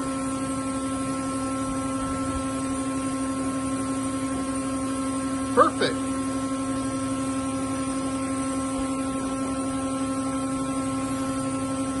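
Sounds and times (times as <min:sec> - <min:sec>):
metal lathe humming: 0:00.0 - 0:12.0.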